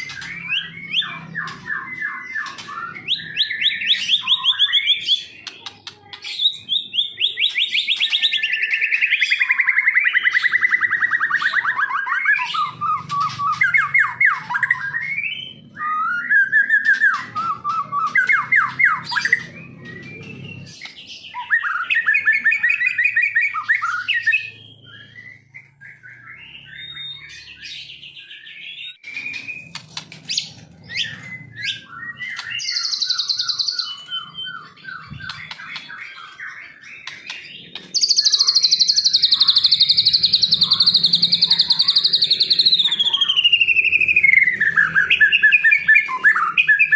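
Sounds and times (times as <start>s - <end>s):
songbird trilling and warbling: 0.0s - 46.9s.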